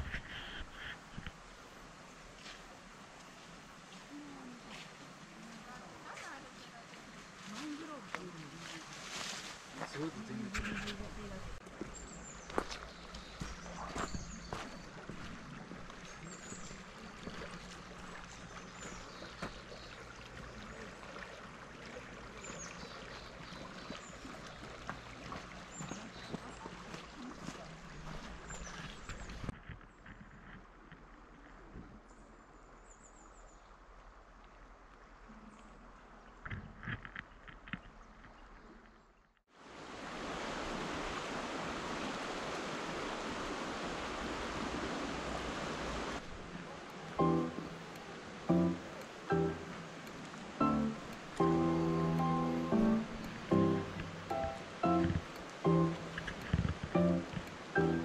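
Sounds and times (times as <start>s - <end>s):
flowing stream water: 0.0s - 58.0s.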